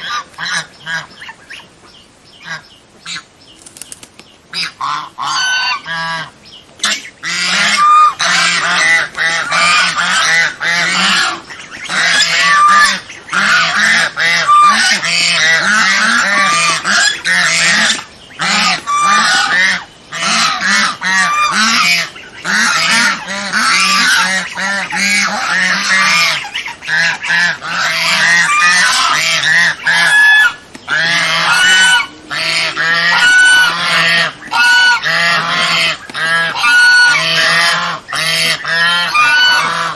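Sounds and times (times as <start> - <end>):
geese honking: 0.0 - 1.7, 4.5 - 39.9.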